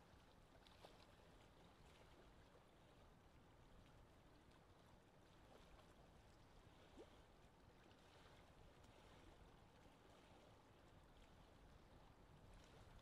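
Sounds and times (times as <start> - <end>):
wind over water: 0.0 - 13.0.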